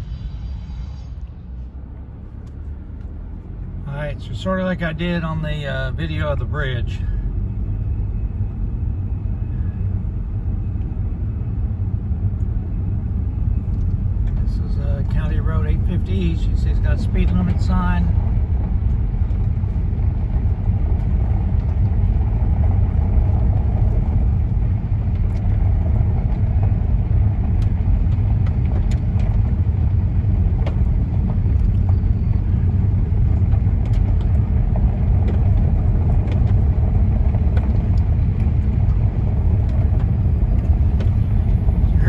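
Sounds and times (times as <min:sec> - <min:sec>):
road and engine rumble in car: 0:00.0 - 0:42.0.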